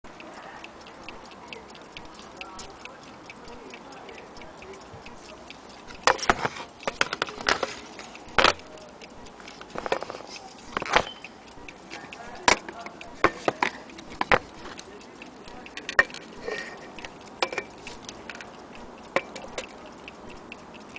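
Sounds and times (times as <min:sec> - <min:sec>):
mantel clock ticking: 0:00.0 - 0:20.9
clock being handled clicks: 0:00.1 - 0:20.9.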